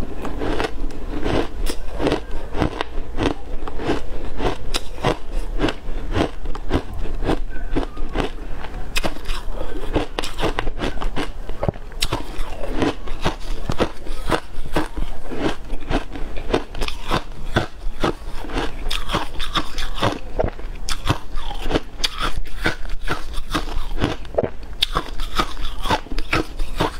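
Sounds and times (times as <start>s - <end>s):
chewing crunchy shaved ice: 0.0s - 26.9s.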